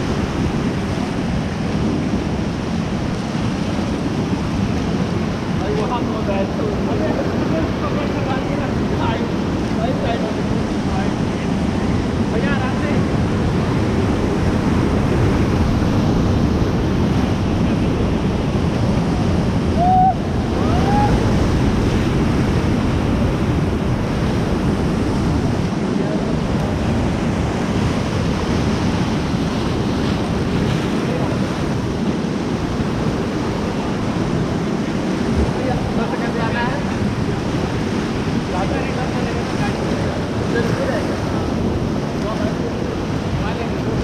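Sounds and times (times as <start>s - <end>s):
rushing whitewater rapids: 0.0s - 44.0s
wind buffeting microphone: 0.0s - 44.0s.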